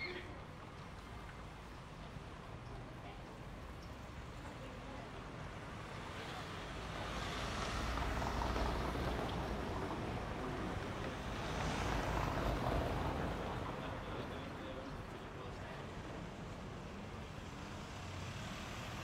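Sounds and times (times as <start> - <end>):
street traffic rushing: 0.0 - 19.0.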